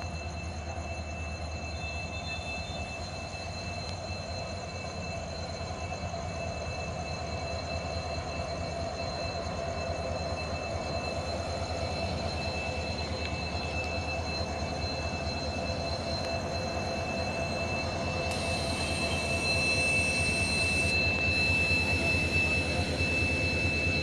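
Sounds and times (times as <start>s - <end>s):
diesel locomotive engine hum: 0.0s - 24.0s
high-pitched whine: 0.0s - 24.0s.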